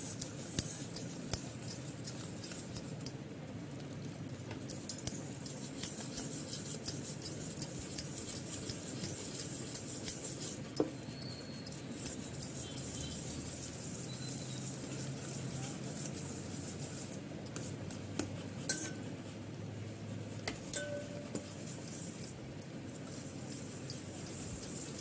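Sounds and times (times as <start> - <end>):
wire whisk ticking against steel bowl: 0.1 - 3.2, 4.3 - 19.0, 20.6 - 25.0.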